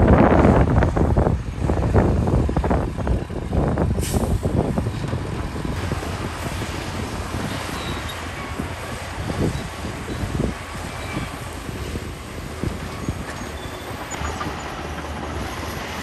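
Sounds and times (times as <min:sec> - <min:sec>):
diesel machinery rumbling: 0:00.0 - 0:16.0.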